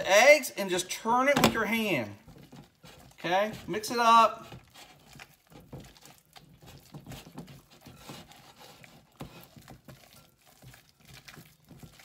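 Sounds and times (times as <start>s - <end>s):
wet dough squelches: 0.0s - 12.0s.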